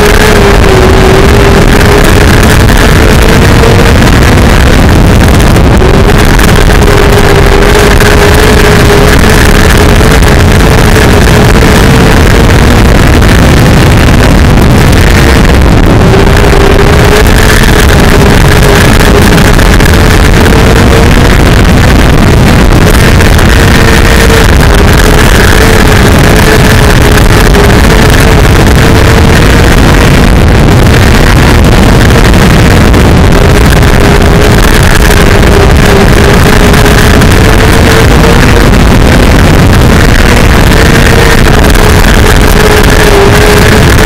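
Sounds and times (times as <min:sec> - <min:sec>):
racing car engine at high revs: 0:00.0 - 0:44.0.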